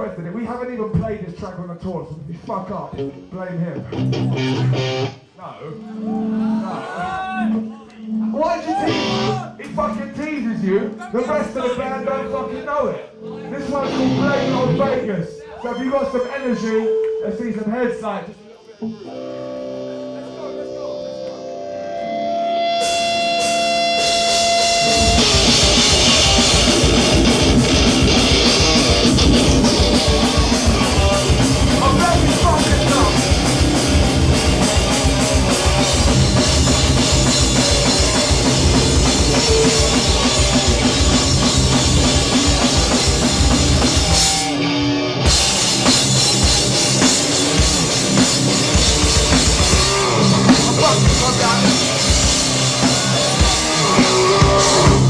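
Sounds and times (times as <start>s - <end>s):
punk band playing live: 2.9s - 5.2s, 5.8s - 10.2s, 13.5s - 15.2s, 18.8s - 55.0s.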